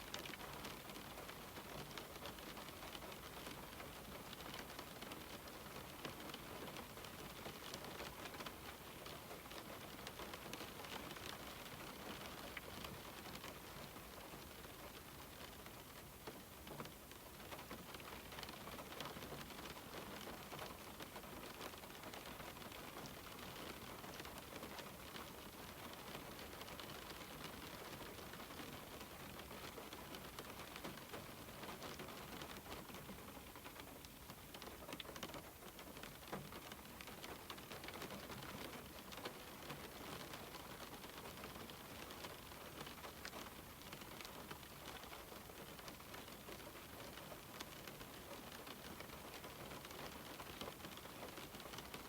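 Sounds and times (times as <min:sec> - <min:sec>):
rain falling on a window: 0:00.0 - 0:52.0.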